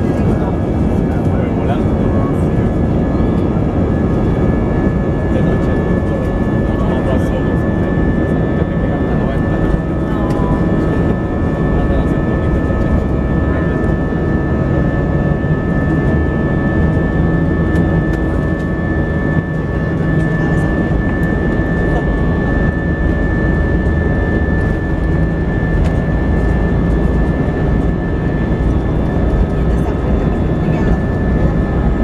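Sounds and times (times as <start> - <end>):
jet engine high whine: 0.0 - 32.0
jet engine low rumble: 0.0 - 32.0.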